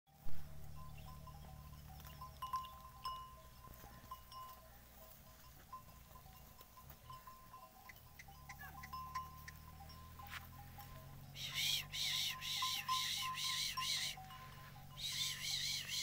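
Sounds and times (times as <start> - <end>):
animal bells clinking: 0.1 - 16.0.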